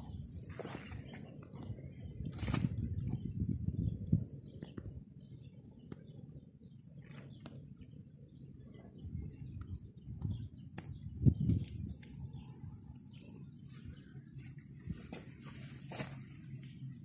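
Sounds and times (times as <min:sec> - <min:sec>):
low rumbling on microphone: 0:00.0 - 0:15.7.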